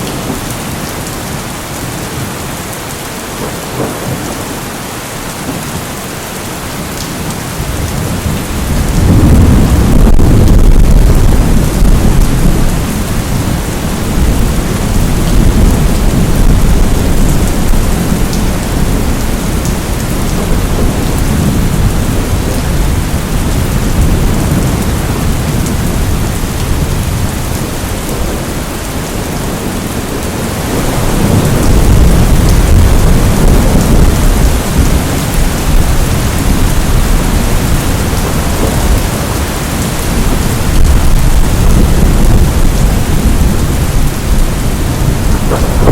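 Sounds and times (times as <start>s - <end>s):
steady rain falling: 0.0s - 45.9s
low rolling thunder: 6.9s - 45.9s.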